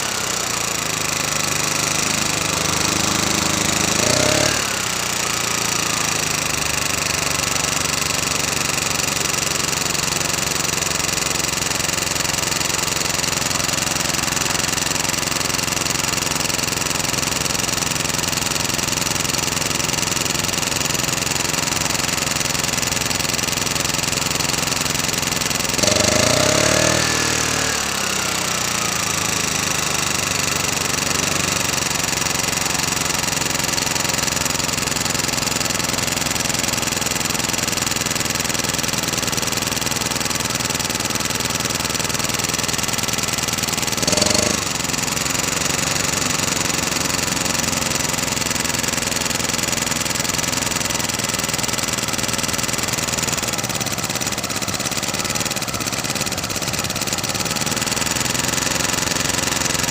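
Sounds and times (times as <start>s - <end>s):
portable generator engine running: 0.0s - 59.9s.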